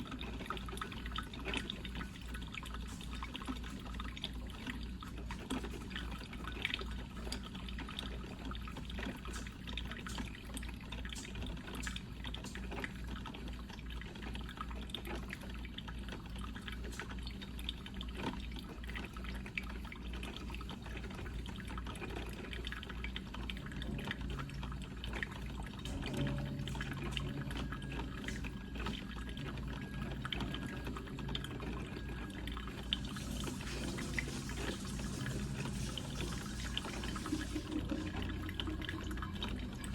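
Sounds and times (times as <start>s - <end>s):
coffee percolator bubbling: 0.0s - 39.9s.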